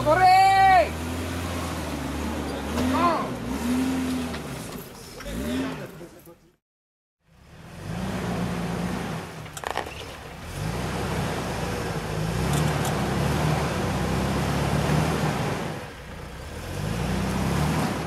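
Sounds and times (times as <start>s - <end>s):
engine pulling at low speed: 0.0s - 6.5s, 7.2s - 18.0s.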